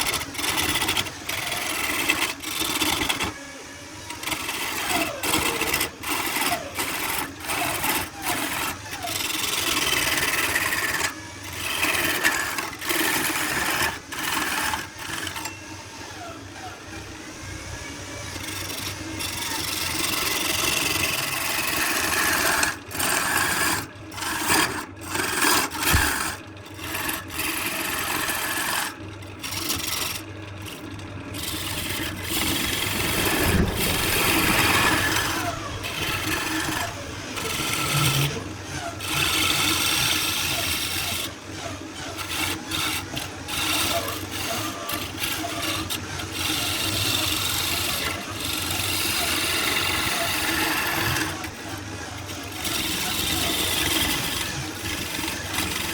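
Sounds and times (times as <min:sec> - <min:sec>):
abrasive tool rasping on wood: 0:00.0 - 0:03.4, 0:04.1 - 0:15.6, 0:18.3 - 0:55.9.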